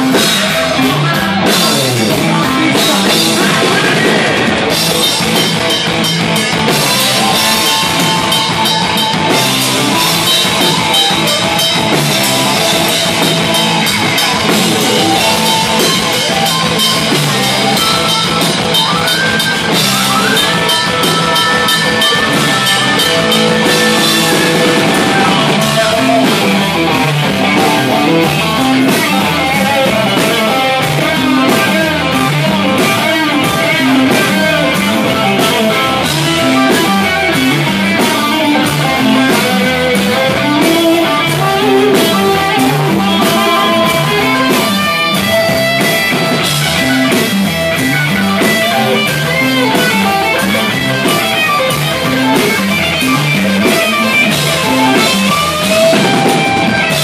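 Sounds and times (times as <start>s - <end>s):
driving drum beat: 0.0s - 57.0s
live rock band playing: 0.0s - 57.0s.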